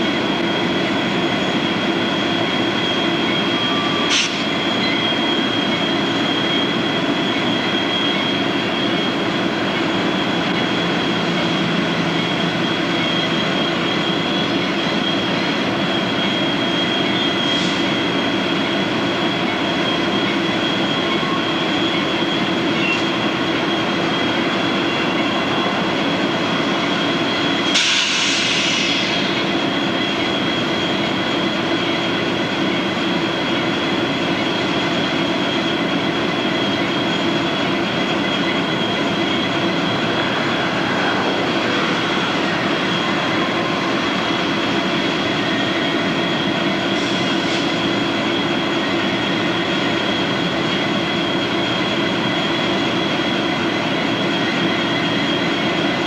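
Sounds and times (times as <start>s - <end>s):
freight train passing: 0.0s - 56.0s
locomotive drone and hum: 0.0s - 56.0s.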